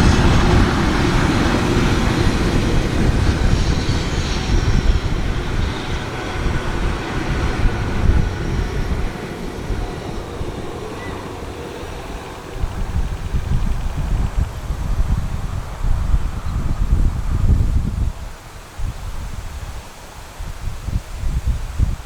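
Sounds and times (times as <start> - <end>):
passenger train rumbling past: 0.0 - 18.8
wind buffeting microphone: 0.0 - 22.0.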